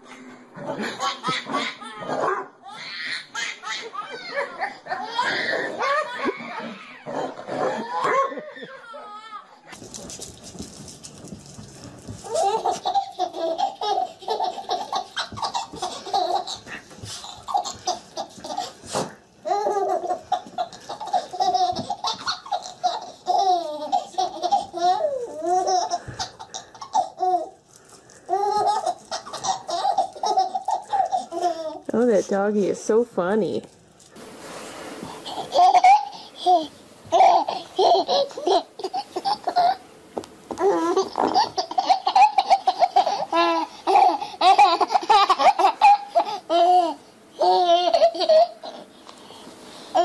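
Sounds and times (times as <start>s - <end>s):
baby laughing: 0.7s - 9.6s, 12.2s - 27.6s, 28.3s - 31.9s, 35.2s - 39.8s, 40.6s - 48.9s.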